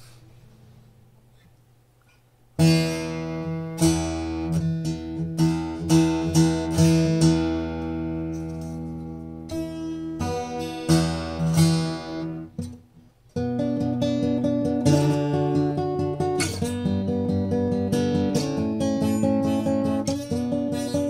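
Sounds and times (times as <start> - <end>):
acoustic guitar strumming: 2.6 - 21.0.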